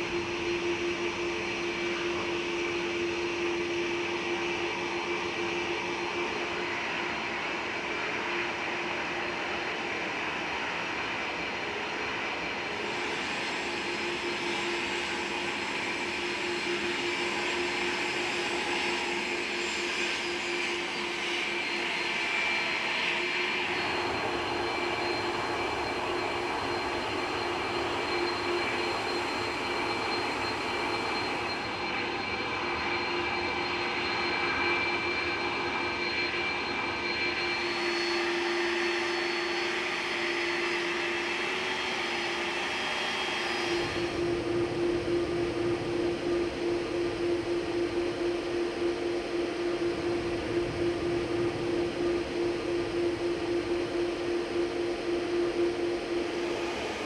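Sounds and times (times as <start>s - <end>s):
jet airliner engines running: 0.0s - 57.0s.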